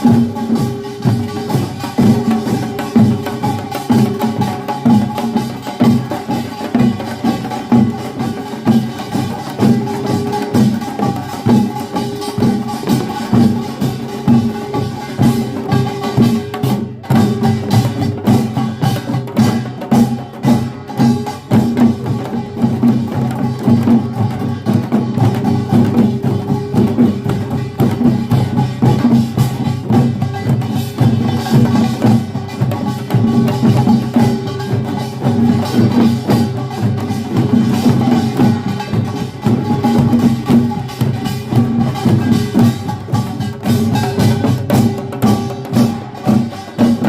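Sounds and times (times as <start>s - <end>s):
drums beating: 0.0s - 47.0s
small gongs beating: 0.0s - 47.0s.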